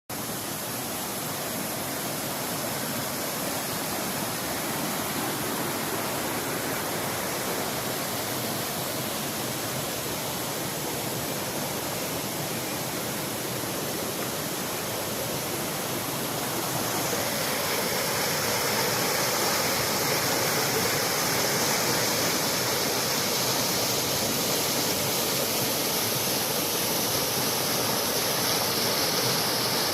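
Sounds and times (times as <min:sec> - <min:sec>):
running water rushing: 0:00.1 - 0:29.9.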